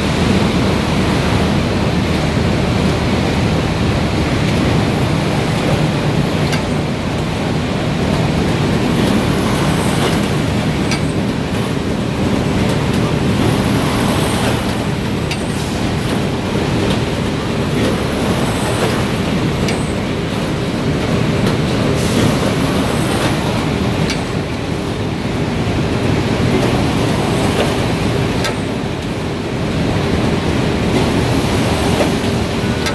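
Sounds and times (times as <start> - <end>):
loud steady machine noise: 0.0 - 32.9.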